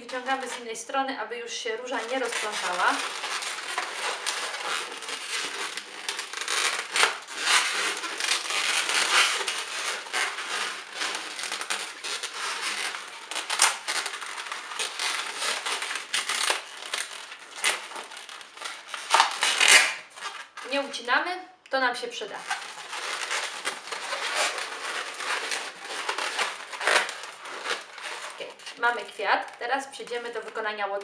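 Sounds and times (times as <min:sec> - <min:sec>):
balloons rubbing rustle: 0:01.6 - 0:21.1, 0:22.2 - 0:30.7.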